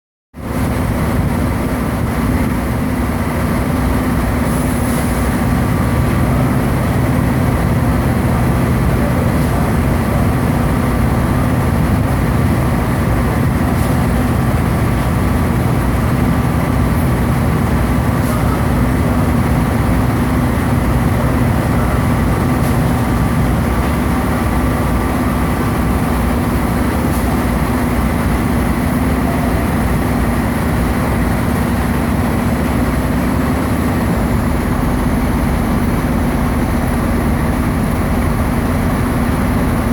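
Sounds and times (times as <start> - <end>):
diesel truck engine idling: 0.4 - 39.9.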